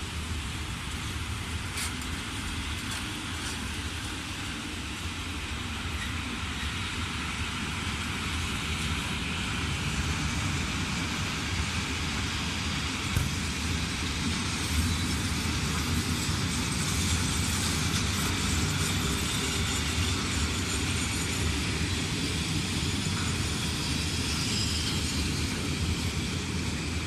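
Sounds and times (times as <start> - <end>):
train rumbling and hissing: 0.0 - 27.0.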